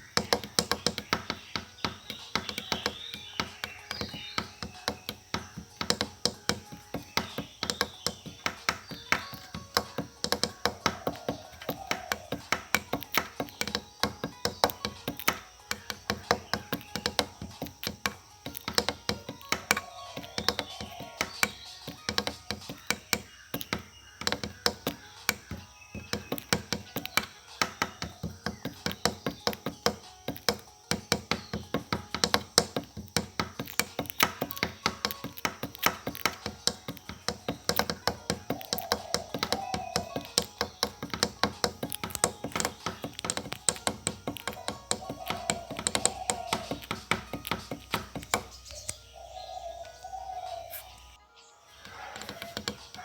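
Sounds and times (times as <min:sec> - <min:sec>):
rapid sharp taps: 0:00.0 - 0:49.0, 0:51.9 - 0:53.0.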